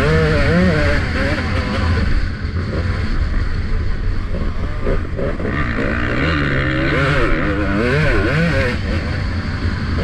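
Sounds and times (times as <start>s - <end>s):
motocross bike engine revving: 0.0s - 10.0s.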